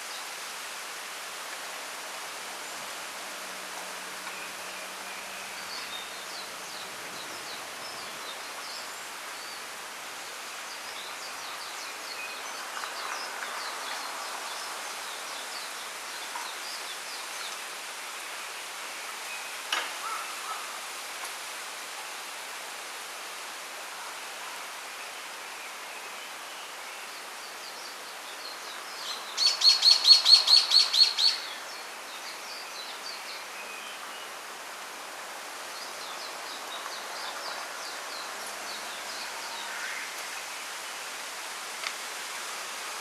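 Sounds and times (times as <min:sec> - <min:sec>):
songbirds chirping: 0:00.0 - 0:43.0
wind rustling bamboo leaves: 0:00.0 - 0:43.0.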